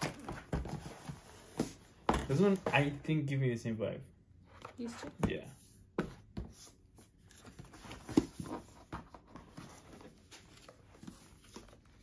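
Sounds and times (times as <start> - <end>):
cards and boxes rustling: 0.0 - 3.0, 4.6 - 12.0.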